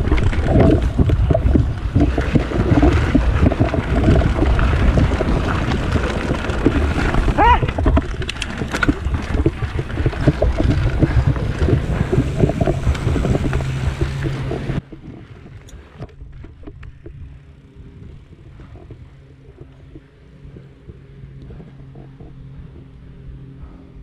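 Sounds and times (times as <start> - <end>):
wind buffeting microphone: 0.0 - 23.4
bike rattling: 0.0 - 24.0
tyre roar on dirt: 0.0 - 24.0.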